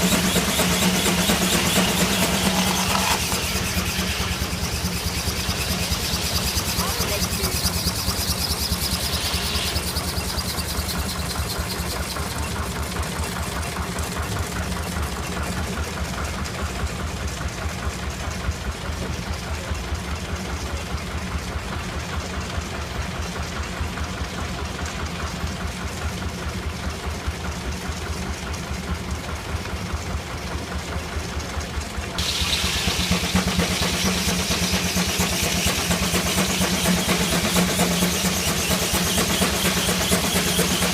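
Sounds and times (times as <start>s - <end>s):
steam engine running: 0.0s - 40.9s.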